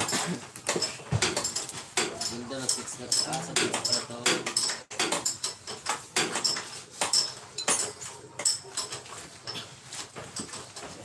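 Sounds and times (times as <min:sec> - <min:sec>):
metal tools clanking: 0:00.0 - 0:11.0.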